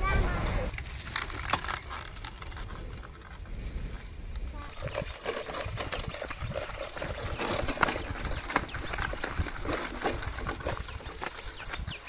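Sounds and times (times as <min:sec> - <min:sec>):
wind rumbling on microphone: 0:00.0 - 0:12.0
bicycle clicking and rattling: 0:00.7 - 0:12.0.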